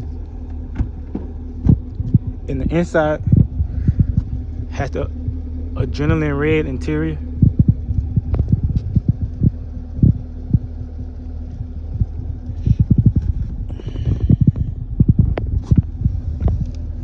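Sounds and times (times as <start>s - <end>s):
car engine idling: 0.0s - 17.0s
low thumps: 0.0s - 17.0s.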